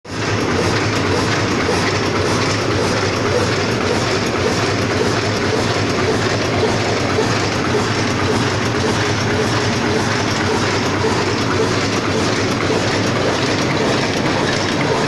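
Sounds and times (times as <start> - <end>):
machine clattering: 0.1 - 15.0.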